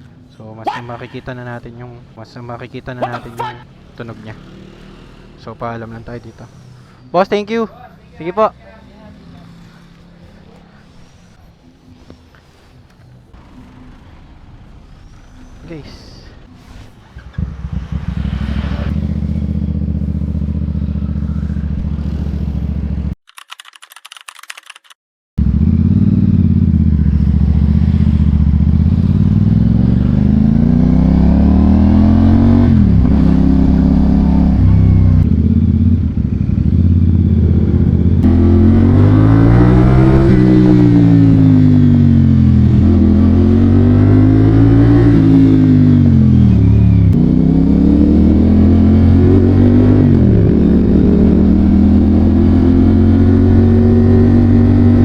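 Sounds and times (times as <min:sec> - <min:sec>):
motorcycle engine revving: 0:00.9 - 0:23.2, 0:25.4 - 0:55.0.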